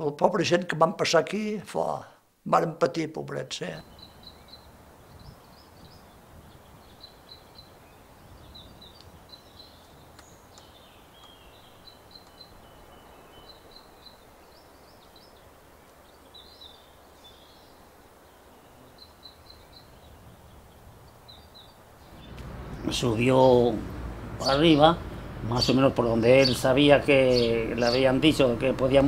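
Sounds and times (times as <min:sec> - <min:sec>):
steady low hiss: 0:00.0 - 0:29.0
small bird chirping: 0:03.8 - 0:29.0.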